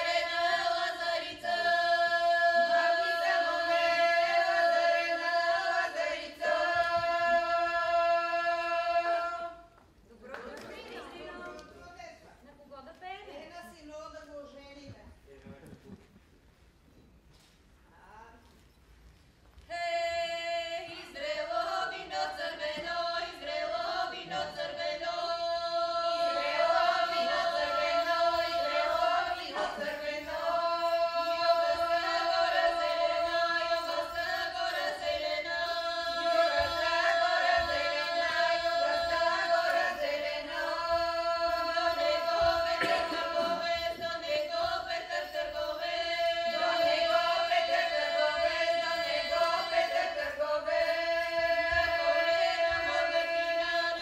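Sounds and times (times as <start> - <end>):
women's choir singing unaccompanied: 0.0 - 11.9, 19.7 - 54.0.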